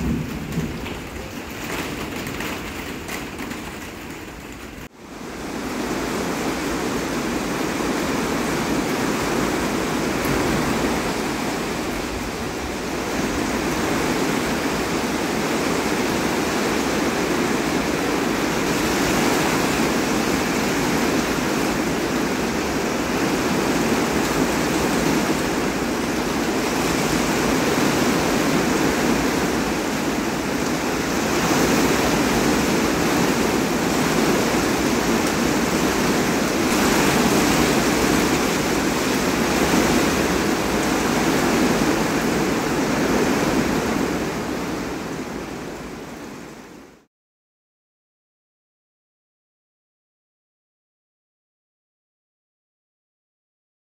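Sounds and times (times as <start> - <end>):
heavy rain downpour: 0.0 - 47.1.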